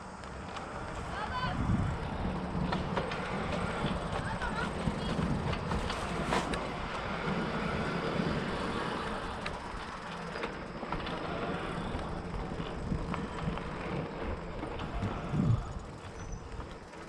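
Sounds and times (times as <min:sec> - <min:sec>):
bike tyres rumbling on dirt: 0:00.0 - 0:17.0.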